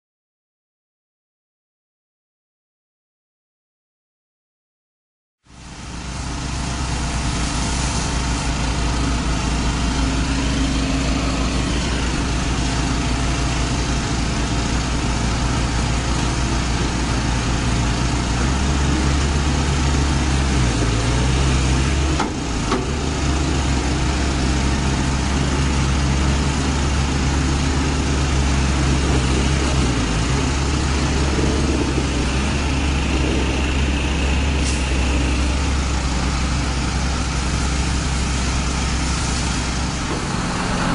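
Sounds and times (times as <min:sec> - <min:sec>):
diesel engine running: 0:05.4 - 0:40.9.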